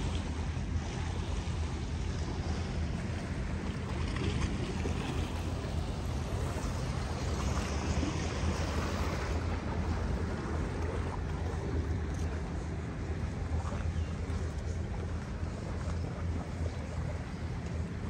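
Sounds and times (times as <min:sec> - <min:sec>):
low rumble: 0:00.0 - 0:18.0
rush of wind: 0:00.0 - 0:18.0
water noise: 0:00.0 - 0:18.0.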